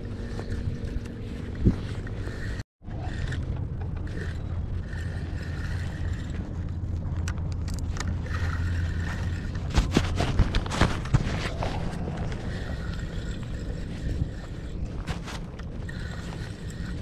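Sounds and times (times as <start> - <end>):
low motor drone: 0.0 - 17.0.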